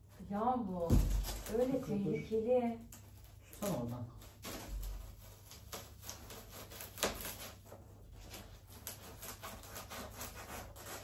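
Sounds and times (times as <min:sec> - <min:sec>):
knife cutting styrofoam: 0:00.7 - 0:02.1, 0:03.1 - 0:11.0.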